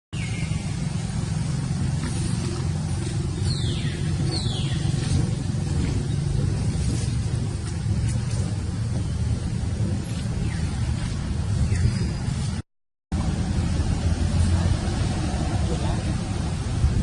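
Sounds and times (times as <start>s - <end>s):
steady low rumble: 0.2s - 17.0s.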